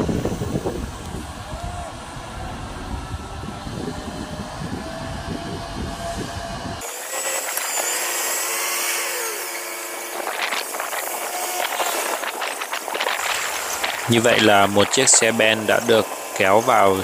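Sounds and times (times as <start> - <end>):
heavy truck engines whining: 0.0 - 17.0.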